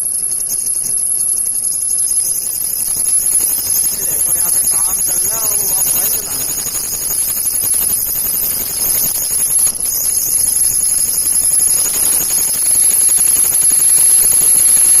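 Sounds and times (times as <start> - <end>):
thin high-pitched whine: 0.0 - 15.0
electronic hiss and hum: 1.7 - 15.0.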